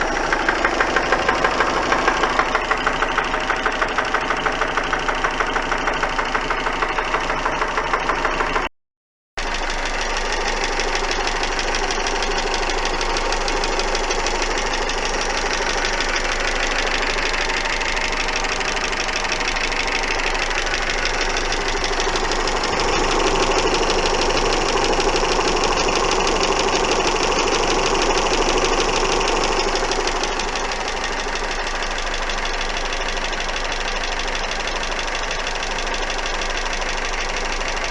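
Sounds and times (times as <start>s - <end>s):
car engine ticking knock: 0.0s - 8.7s, 9.4s - 37.9s.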